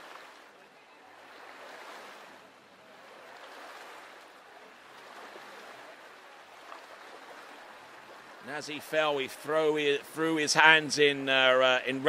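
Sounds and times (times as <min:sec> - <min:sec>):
rushing churning water: 0:00.0 - 0:12.0.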